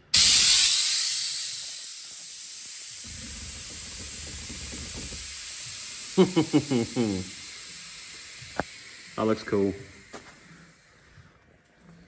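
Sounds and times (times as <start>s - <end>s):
air venting hiss: 0.0s - 12.0s.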